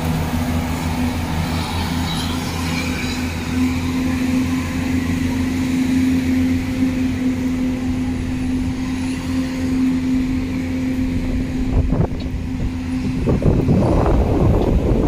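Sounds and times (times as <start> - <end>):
traffic hum: 0.0 - 15.0
vehicle passing rumble: 0.0 - 15.0.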